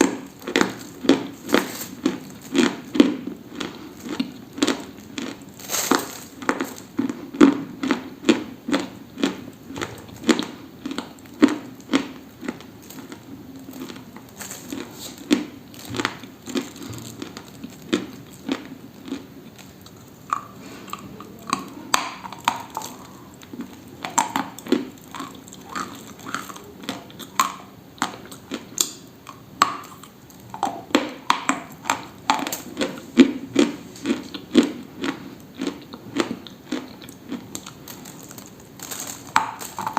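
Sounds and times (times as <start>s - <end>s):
brittle food crunching: 0.0s - 39.9s.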